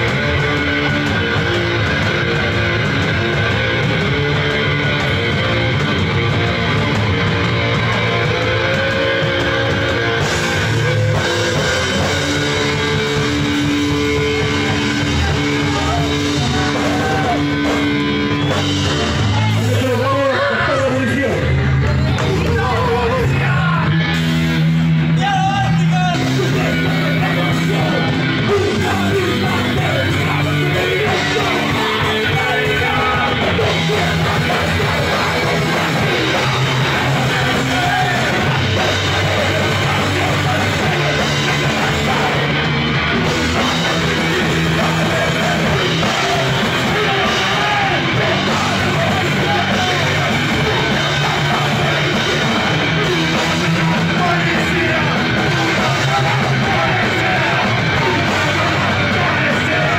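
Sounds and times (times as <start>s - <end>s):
drum kit: 0.0s - 59.9s
punk rock band playing live: 0.0s - 59.9s
shouted vocals: 0.0s - 59.9s.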